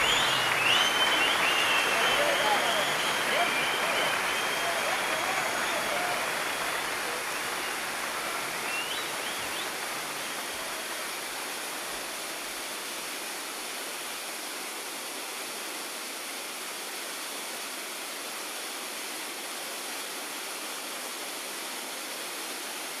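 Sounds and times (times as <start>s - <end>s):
waterfall splashing over rocks: 0.0s - 23.0s.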